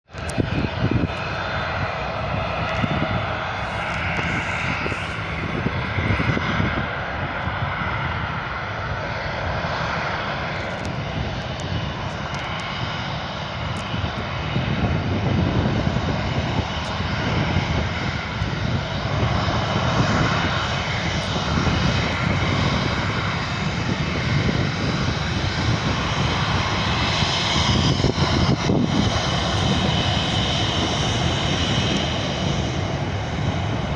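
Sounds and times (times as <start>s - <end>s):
jet engines running: 0.1s - 33.9s.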